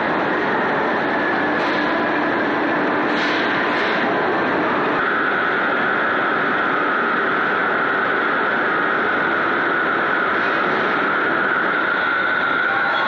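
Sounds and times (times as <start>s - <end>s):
high-pitched hum: 0.0s - 13.0s
loud machinery din: 0.0s - 13.0s.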